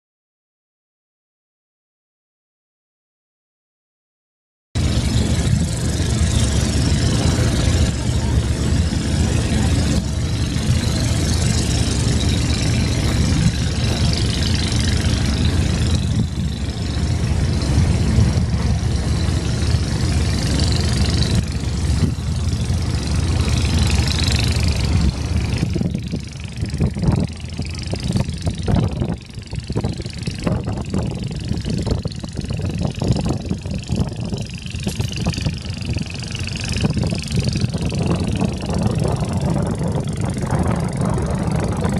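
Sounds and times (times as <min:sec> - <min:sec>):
boat engine running: 0:04.8 - 0:41.9
rushing noise: 0:04.8 - 0:41.9.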